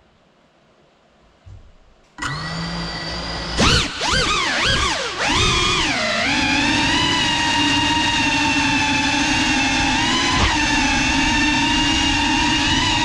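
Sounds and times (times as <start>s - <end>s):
drone propellers whining: 2.2s - 13.0s.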